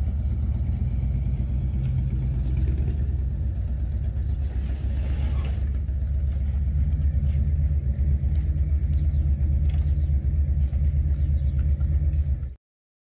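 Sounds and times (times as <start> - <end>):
vehicle engine idling: 0.0 - 12.6.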